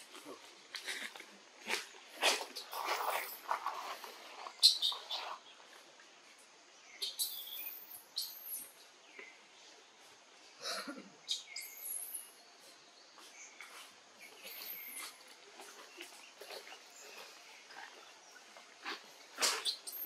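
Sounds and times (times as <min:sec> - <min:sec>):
birds chirping: 0:02.0 - 0:20.0.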